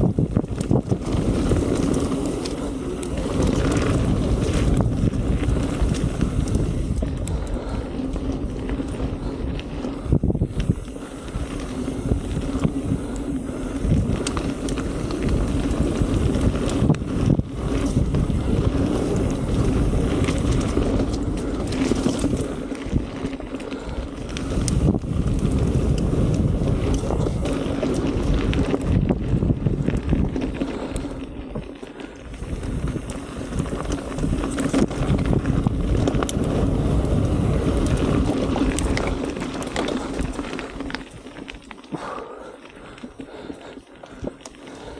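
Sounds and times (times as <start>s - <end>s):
wind buffeting microphone: 0.0s - 41.4s
bike tyre noise on dirt: 0.0s - 44.9s.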